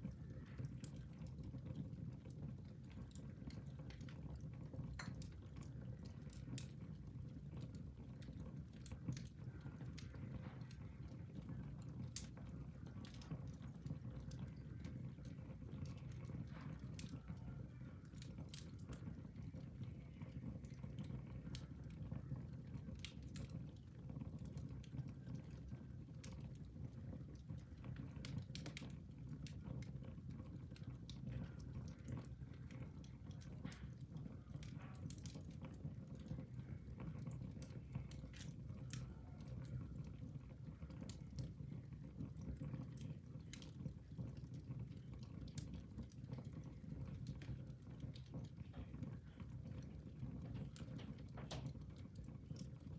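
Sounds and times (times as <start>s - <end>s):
fire crackling in fireplace: 0.0s - 52.9s.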